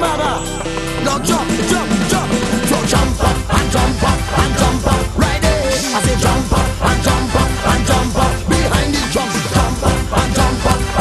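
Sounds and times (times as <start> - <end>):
up-tempo dance music: 0.0 - 11.0.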